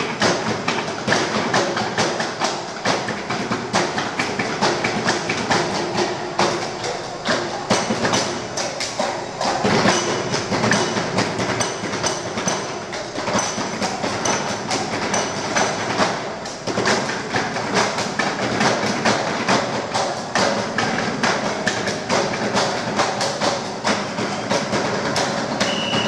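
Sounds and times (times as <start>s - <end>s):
drumming on wooden desks: 0.0s - 26.0s.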